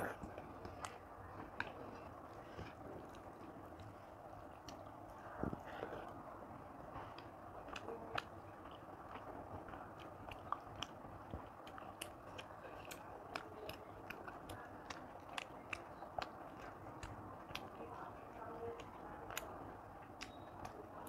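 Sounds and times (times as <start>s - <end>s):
fingers mixing rice on a plate: 0.0s - 21.0s
person chewing with wet mouth clicks: 0.0s - 21.0s.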